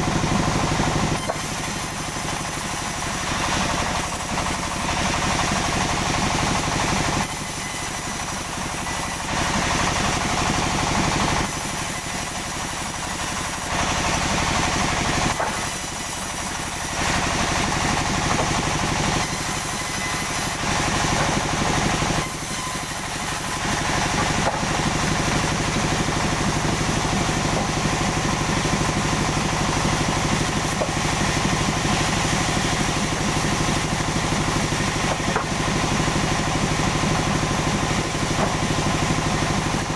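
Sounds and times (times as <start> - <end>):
machine-driven saw cutting: 0.0 - 39.9
motor drone: 0.0 - 39.9.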